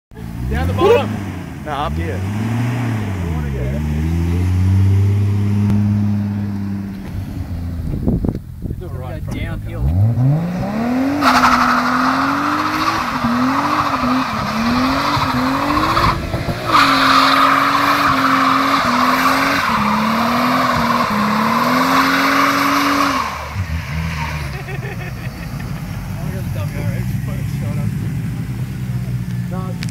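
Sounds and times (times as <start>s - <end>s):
car engine revving hard: 0.2s - 8.0s, 9.6s - 29.3s.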